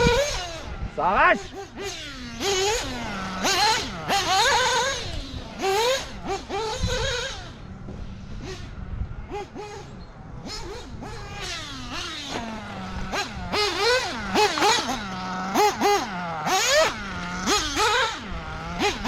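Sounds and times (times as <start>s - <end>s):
nitro engine revving in bursts: 0.0s - 19.0s.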